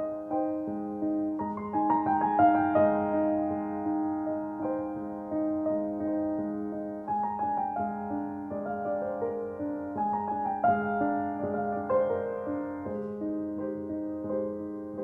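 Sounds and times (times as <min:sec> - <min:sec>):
gentle slow piano music: 0:00.0 - 0:15.0.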